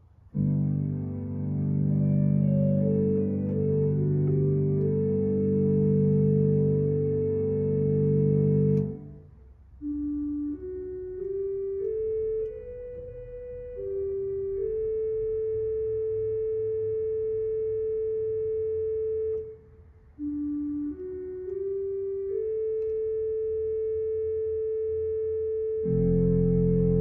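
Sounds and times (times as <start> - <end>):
faint sustained organ chords: 0.0 - 27.0
flute-like organ melody: 0.4 - 19.6, 20.2 - 27.0.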